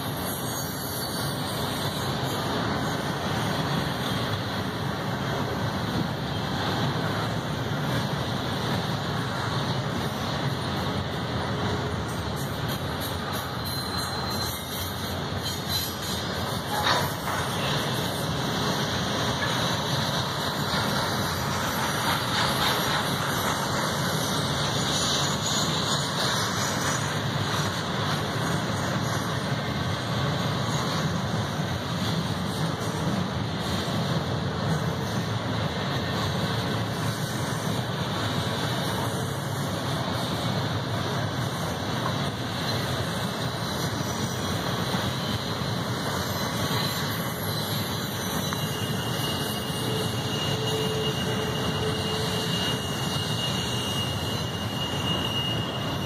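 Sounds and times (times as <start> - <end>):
freight train wheels rolling on rail: 0.0 - 56.0.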